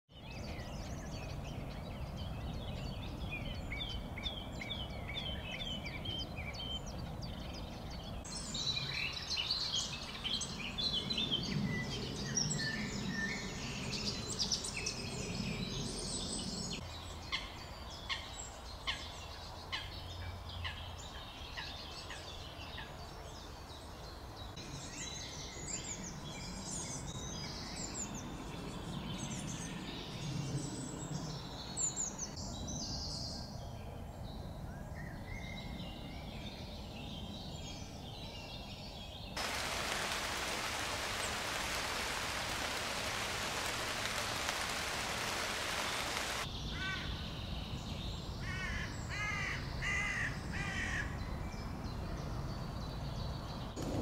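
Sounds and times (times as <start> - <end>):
songbirds chirping and trilling: 0.1 - 54.0.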